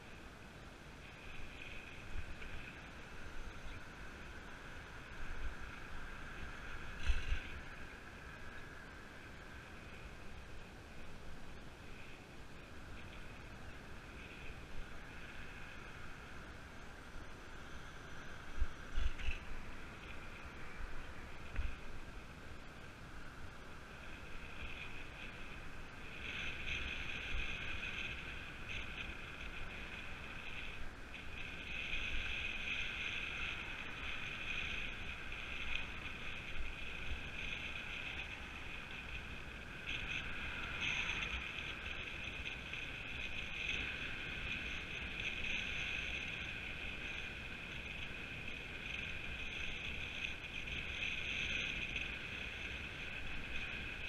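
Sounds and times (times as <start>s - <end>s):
bike tyres on tarmac: 0.0s - 54.0s
wind on microphone: 0.0s - 54.0s.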